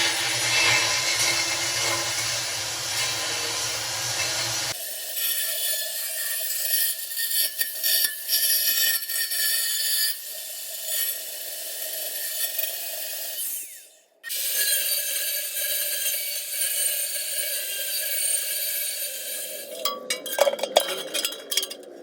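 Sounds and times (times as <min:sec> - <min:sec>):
angle grinder grinding steel: 0:00.0 - 0:22.0.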